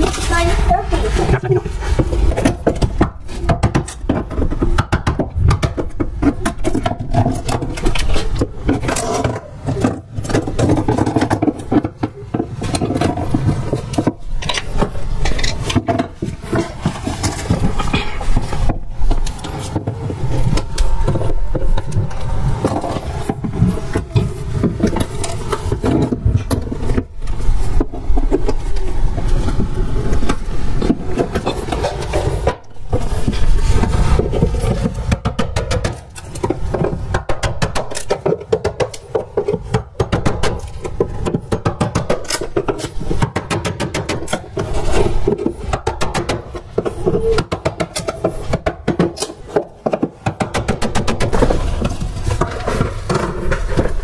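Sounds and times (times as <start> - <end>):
sharp knocks and clicks: 2.0 - 54.0.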